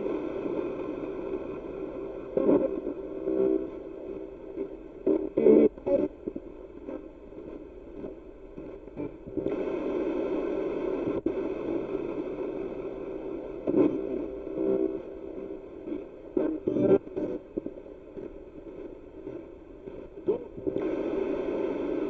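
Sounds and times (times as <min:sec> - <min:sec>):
radio static sweeping: 0:00.0 - 0:22.0
snatches of broadcast sound: 0:00.0 - 0:22.0.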